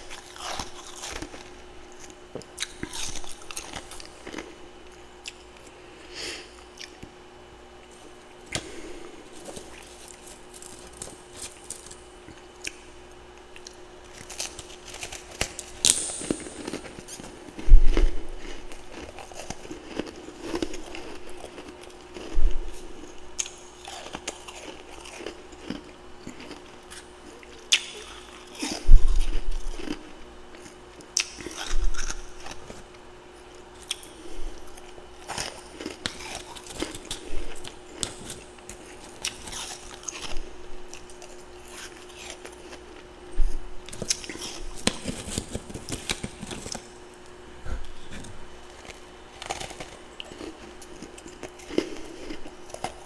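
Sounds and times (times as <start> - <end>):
icy crunches of chewing: 0.0 - 7.2, 7.8 - 53.0
faint steady hum: 0.0 - 53.0.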